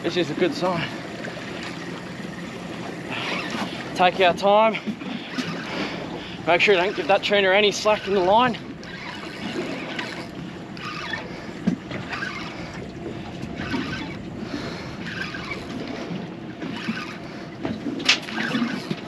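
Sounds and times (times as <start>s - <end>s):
water slapping against boat hull: 0.0s - 19.0s.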